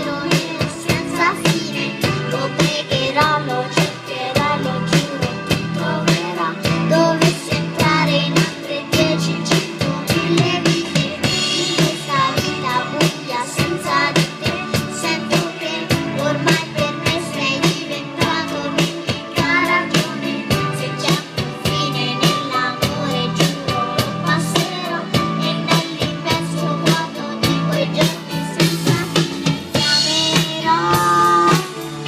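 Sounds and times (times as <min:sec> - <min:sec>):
person singing: 0:00.0 - 0:32.0
steady drum beat: 0:00.0 - 0:32.0.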